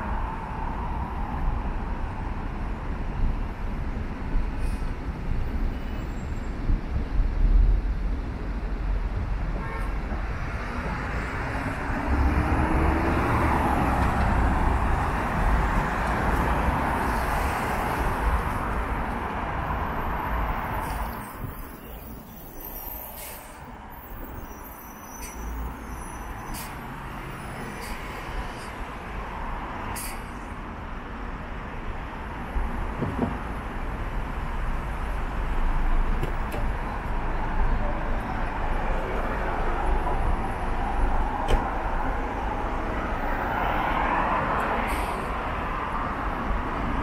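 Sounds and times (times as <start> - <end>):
city bus: 0.0 - 47.0
city traffic noise: 0.0 - 47.0
cars passing: 7.6 - 24.5, 25.2 - 47.0.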